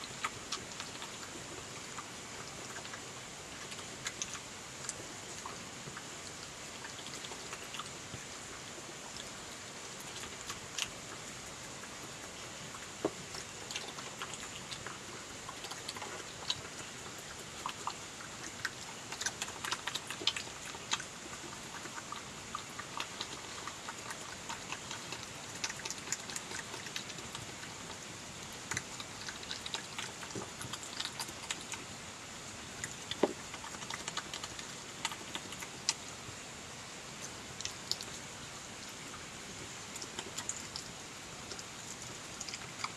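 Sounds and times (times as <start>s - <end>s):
animal chewing and biting: 0.0s - 32.0s, 32.6s - 36.2s, 37.2s - 38.3s, 39.0s - 42.9s
steady hiss: 0.0s - 42.9s.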